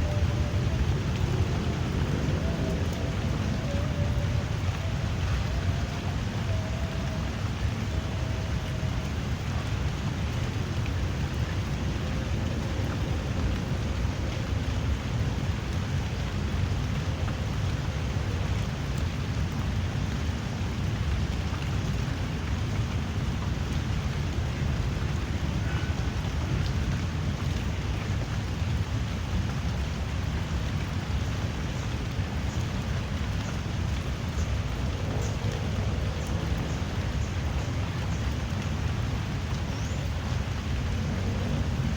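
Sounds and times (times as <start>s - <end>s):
drizzling rain hiss: 0.0s - 41.9s.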